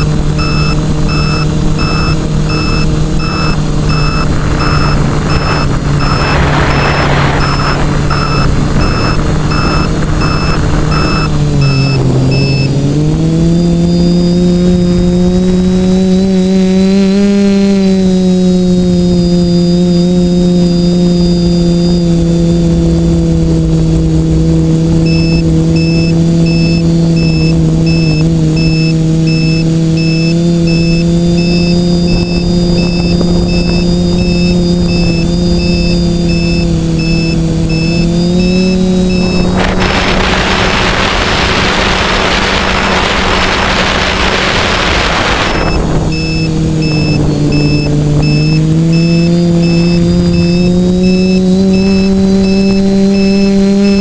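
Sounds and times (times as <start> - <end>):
quadcopter motors humming: 0.0 - 54.0
thin high whine: 0.0 - 54.0.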